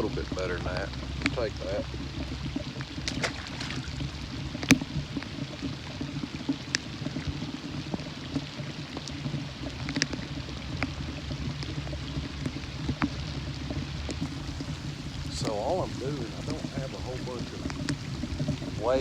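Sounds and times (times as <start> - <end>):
drops ticking close by: 0.0 - 19.0
light rain falling: 0.0 - 19.0.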